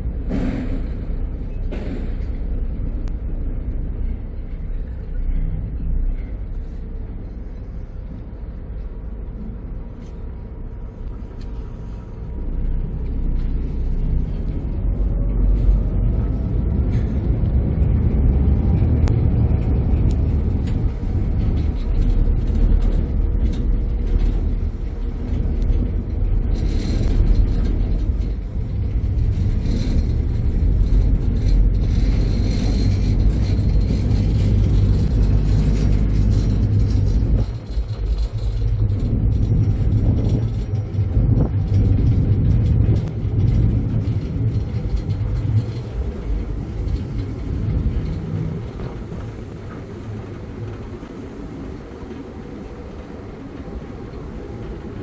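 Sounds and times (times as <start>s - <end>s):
ferry engines rumbling: 0.0s - 55.0s.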